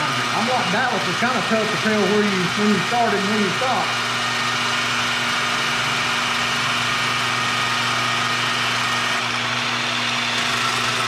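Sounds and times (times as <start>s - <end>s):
tire grinder motor hum: 0.0s - 11.0s.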